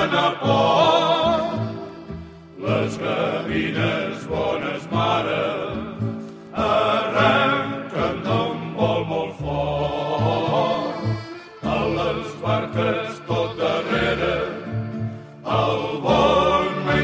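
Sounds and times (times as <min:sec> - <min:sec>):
instrumental accompaniment with bass: 0:00.0 - 0:17.0
voices singing: 0:00.0 - 0:17.0.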